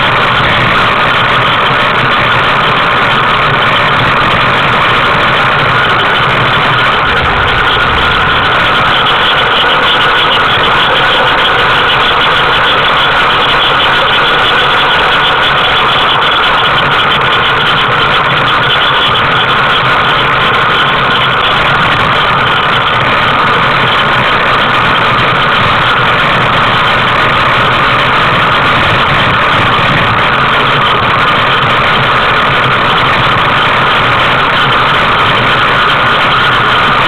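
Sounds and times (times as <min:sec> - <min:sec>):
wind noise: 0:00.0 - 0:37.0.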